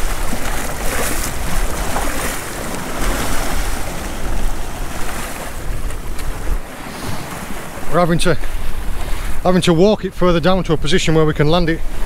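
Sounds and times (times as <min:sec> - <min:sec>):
sea waves washing over rocks: 0:00.0 - 0:09.9
wind buffeting microphone: 0:00.0 - 0:12.0.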